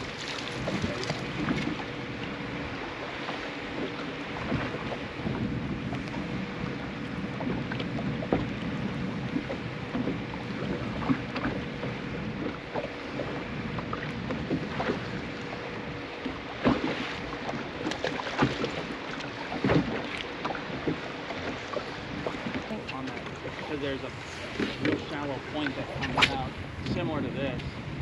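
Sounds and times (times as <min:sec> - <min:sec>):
water lapping against boat hull: 0:00.0 - 0:28.0
wind on microphone: 0:00.0 - 0:28.0.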